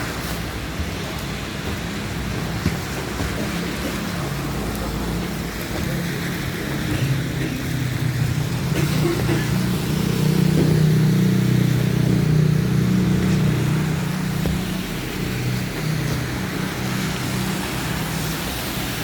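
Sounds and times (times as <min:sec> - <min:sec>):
vehicle engine running: 0:01.4 - 0:18.8.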